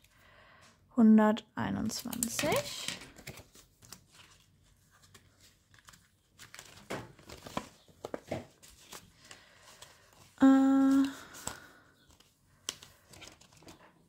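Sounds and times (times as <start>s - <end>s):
paper rustling and crinkling: 1.8s - 14.0s.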